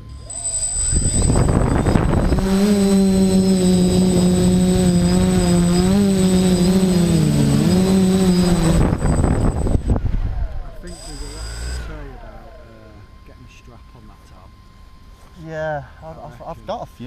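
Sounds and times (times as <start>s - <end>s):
drone propellers humming: 0.0s - 15.2s.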